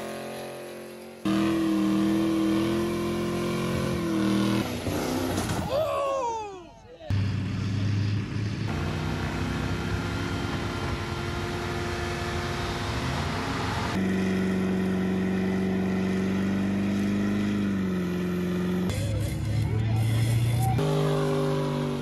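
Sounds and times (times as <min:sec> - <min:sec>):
car engine at high revs: 0:00.0 - 0:05.6, 0:07.1 - 0:22.0.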